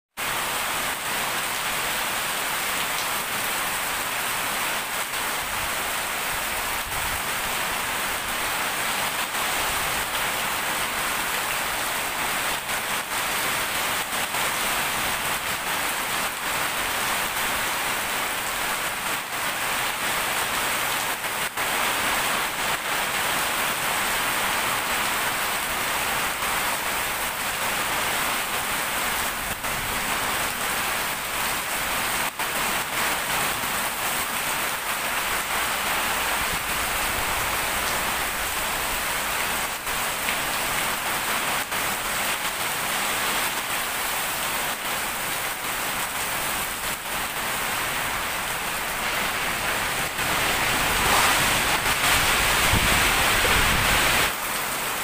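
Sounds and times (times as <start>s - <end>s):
heavy rain hiss: 0.2s - 55.0s.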